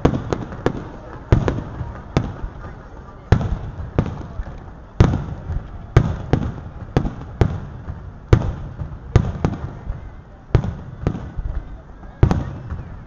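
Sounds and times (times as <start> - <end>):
fireworks booming with echo: 0.0 - 13.0.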